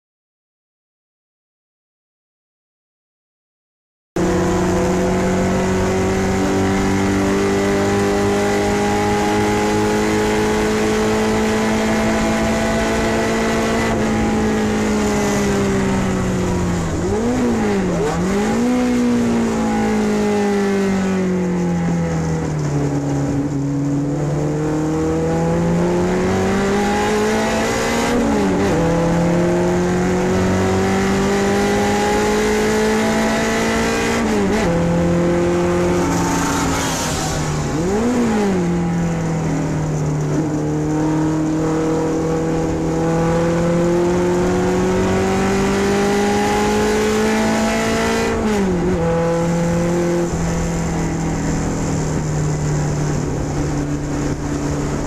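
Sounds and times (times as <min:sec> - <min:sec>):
race car engine revving: 0:04.2 - 0:55.0.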